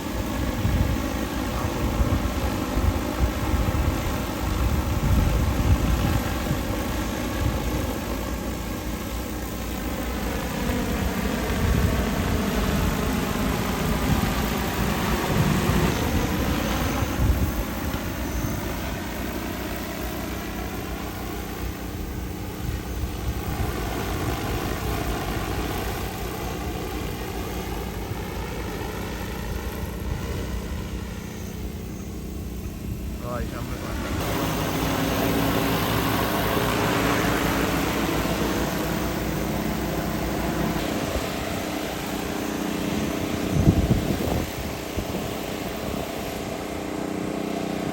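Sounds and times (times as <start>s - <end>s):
drone rotors humming: 0.0s - 47.9s.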